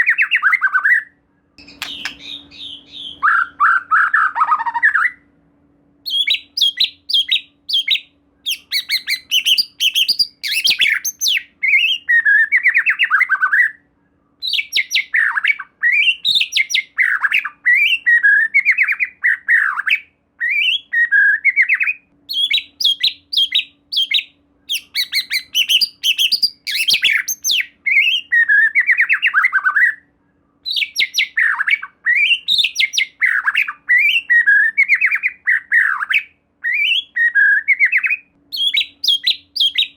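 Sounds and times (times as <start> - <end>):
bird singing varied whistled phrases: 0.0 - 5.3, 6.0 - 39.9.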